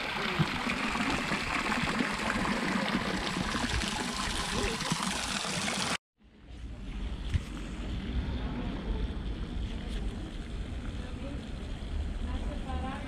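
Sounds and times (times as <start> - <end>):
fountain water splashing: 0.0 - 6.0, 7.8 - 13.0.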